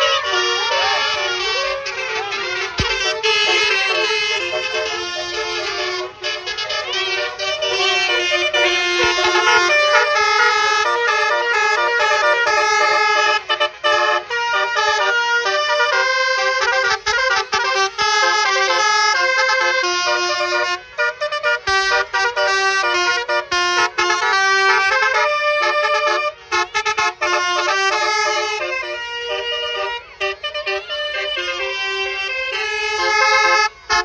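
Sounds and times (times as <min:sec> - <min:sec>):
multi-tone air horns playing tune: 0:00.0 - 0:34.0.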